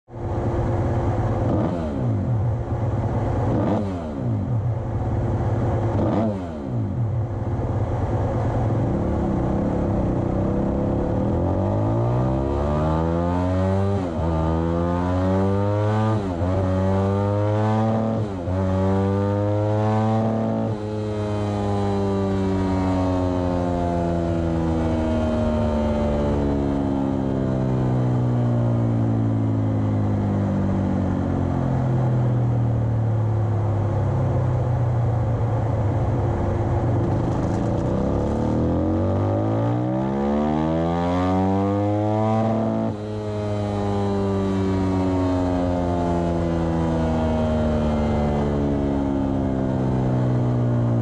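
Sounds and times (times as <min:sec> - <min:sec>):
motorcycle engine revving: 0:00.3 - 0:32.6, 0:36.0 - 0:51.0.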